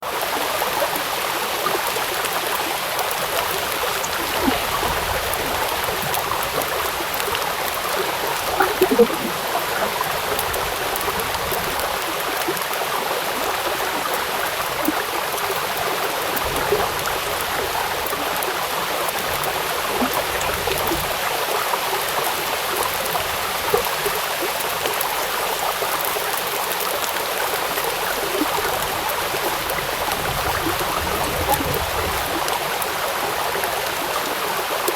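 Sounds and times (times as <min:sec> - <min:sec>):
flowing water: 0:00.0 - 0:34.9
rain splashing on river: 0:00.0 - 0:34.9.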